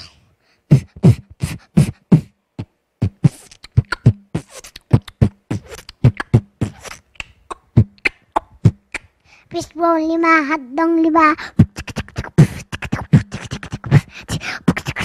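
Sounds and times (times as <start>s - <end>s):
child beatboxing into microphone: 0.0s - 15.0s.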